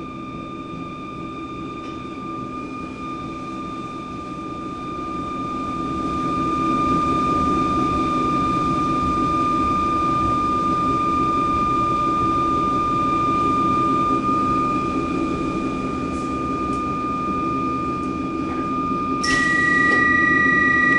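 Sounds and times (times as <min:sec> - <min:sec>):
high-pitched whine: 0:00.0 - 0:20.9.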